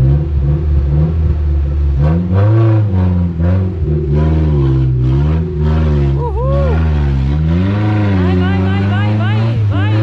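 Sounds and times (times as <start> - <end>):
car engine revving hard: 0.0 - 10.0.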